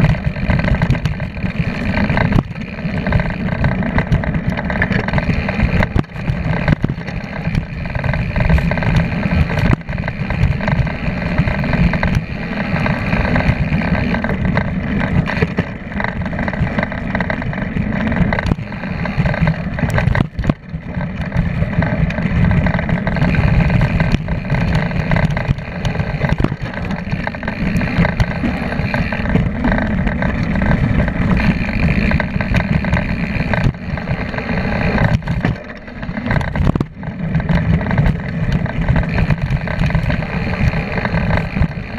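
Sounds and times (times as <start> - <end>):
bike knocks and rattles: 0.0 - 41.9
bike tyres rolling over dirt: 0.0 - 41.9
wind buffeting microphone: 0.0 - 41.9.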